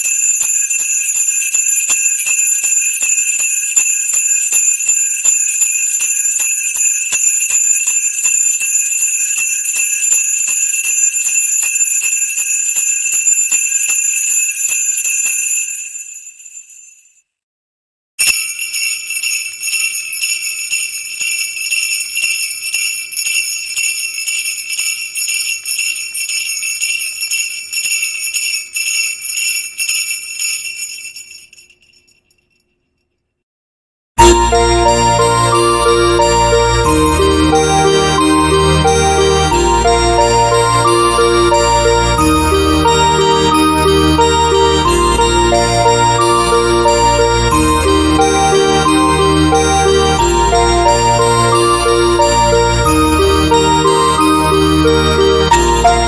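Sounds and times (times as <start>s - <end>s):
sleigh bells shaking: 0.0s - 17.2s, 18.2s - 32.7s, 34.2s - 56.0s.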